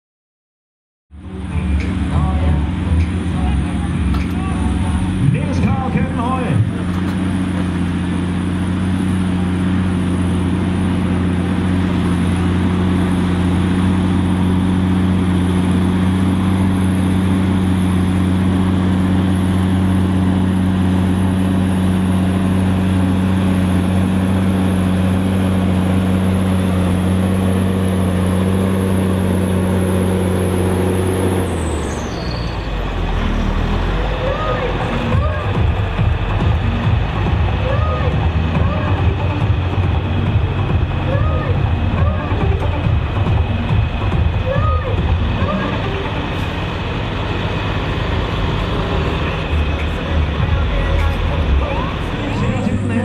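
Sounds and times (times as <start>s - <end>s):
tractor engine running: 1.1s - 53.0s.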